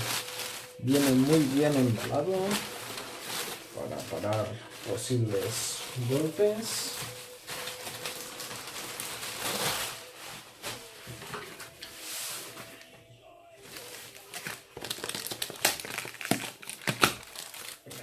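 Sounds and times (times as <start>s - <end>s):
plastic tearing: 0.0s - 12.0s, 13.7s - 18.0s
plastic wrapping crinkling: 0.0s - 12.9s, 13.6s - 18.0s.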